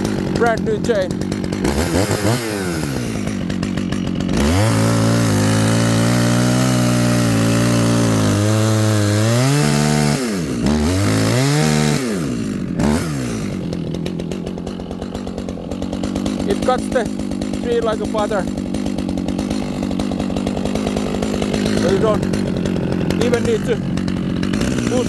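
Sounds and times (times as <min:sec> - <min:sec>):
chainsaw cutting through tree: 0:00.0 - 0:25.0.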